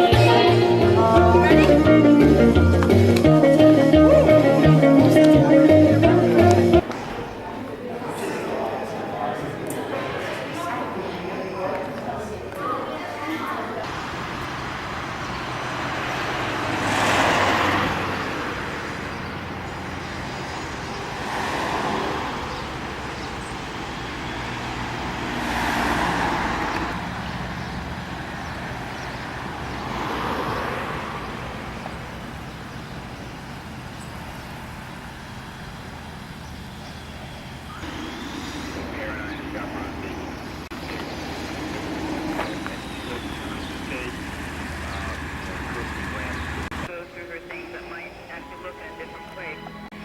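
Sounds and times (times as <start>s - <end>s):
engine hum: 0.0s - 7.2s, 13.8s - 48.1s
vehicles passing: 0.0s - 50.0s.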